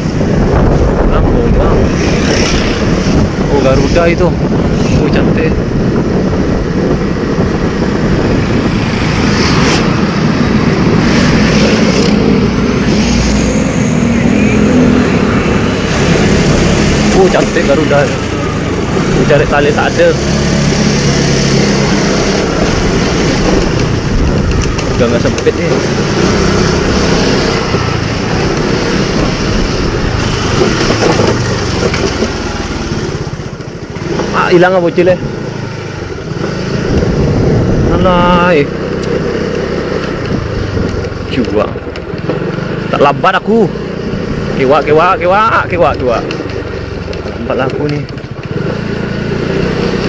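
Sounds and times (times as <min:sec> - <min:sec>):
wind noise on microphone: 0:00.0 - 0:42.7
motorcycle riding at speed: 0:00.0 - 0:50.0.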